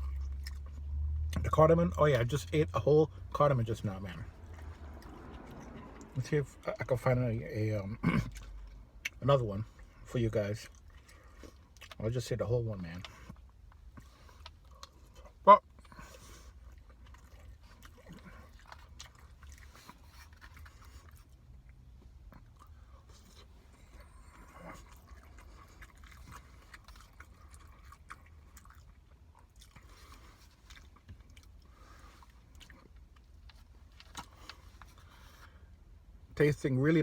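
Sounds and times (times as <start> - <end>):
close-up chewing: 0.0 - 2.5, 3.3 - 36.2.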